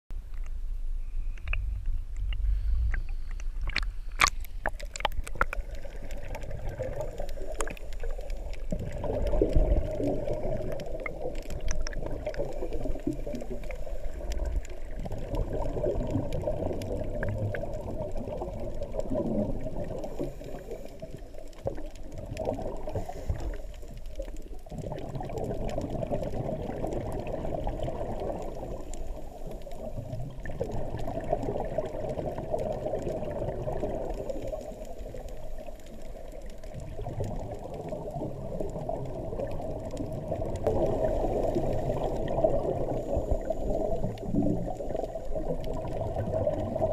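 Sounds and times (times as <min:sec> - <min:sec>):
muffled underwater gurgling: 0:01.4 - 0:46.9
water splashes: 0:01.4 - 0:46.9.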